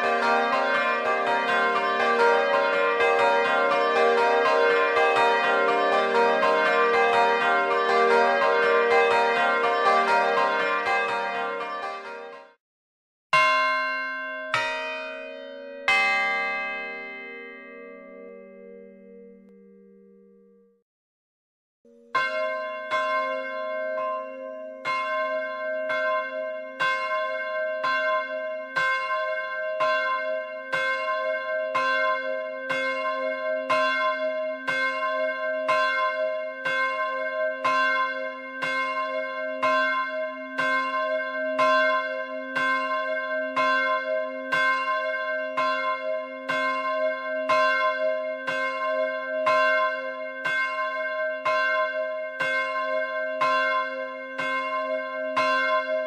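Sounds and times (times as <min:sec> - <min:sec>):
church bell ringing: 0:00.0 - 0:12.6, 0:13.4 - 0:20.7, 0:21.9 - 0:56.0.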